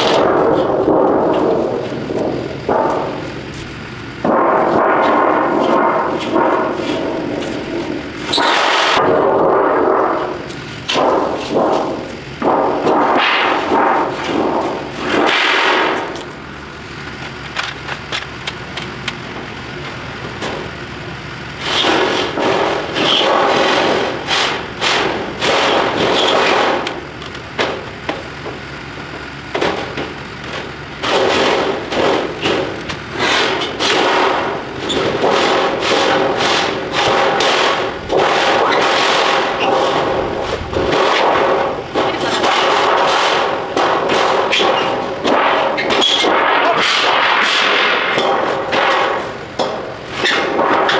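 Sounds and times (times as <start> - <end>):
sheet metal banging and scraping: 0.0 - 16.4, 21.5 - 28.5, 29.5 - 50.9.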